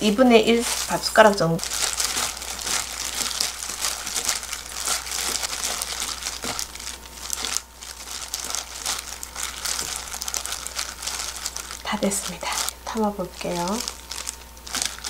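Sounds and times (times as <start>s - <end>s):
plastic glove crinkling: 0.0s - 15.0s
wet rustle of sprouts: 0.0s - 15.0s.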